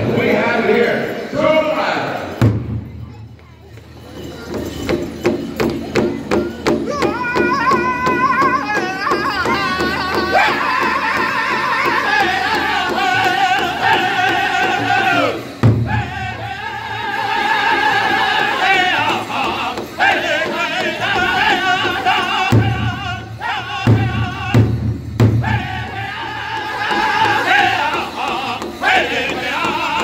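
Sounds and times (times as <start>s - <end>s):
men singing in unison: 0.0s - 2.3s, 7.2s - 30.0s
large hand drum beats: 2.4s - 3.1s, 4.5s - 30.0s.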